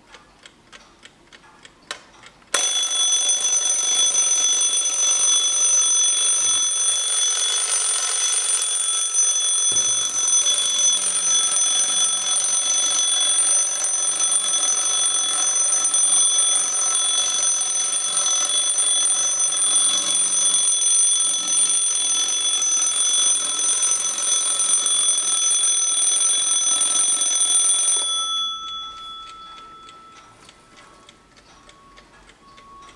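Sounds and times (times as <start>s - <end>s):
clock ticking softly: 0.0s - 32.9s
alarm clock bell ringing: 2.6s - 32.9s.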